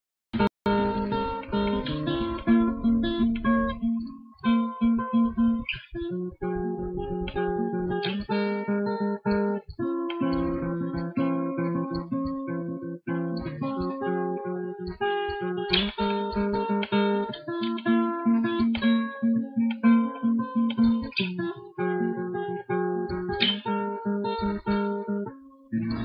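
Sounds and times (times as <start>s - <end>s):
acoustic guitar strumming chords: 0.4s - 26.0s.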